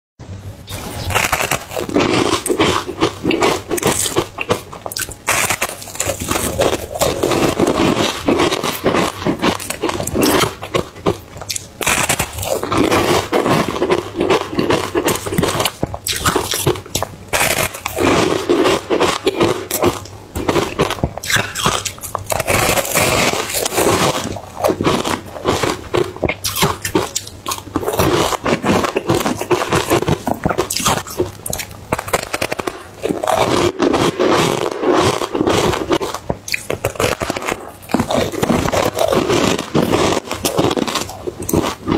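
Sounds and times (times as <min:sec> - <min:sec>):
crunching ice chunks: 0:01.0 - 0:41.9.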